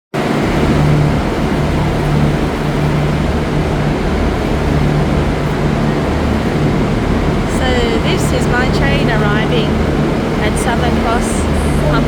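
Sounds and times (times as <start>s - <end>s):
diesel train engines idling: 0.4s - 12.0s.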